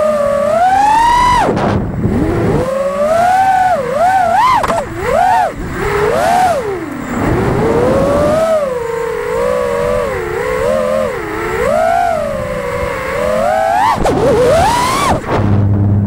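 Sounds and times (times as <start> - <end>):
quadcopter motors whining: 0.0 - 15.4.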